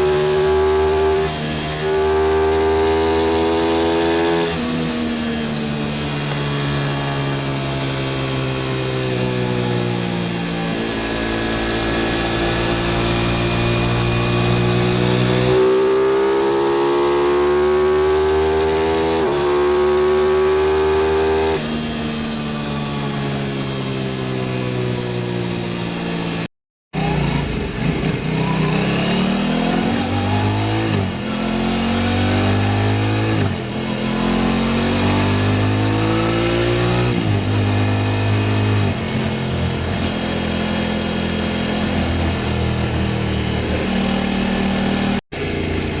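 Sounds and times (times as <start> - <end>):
motorcycle engine with gear changes: 0.0 - 46.0.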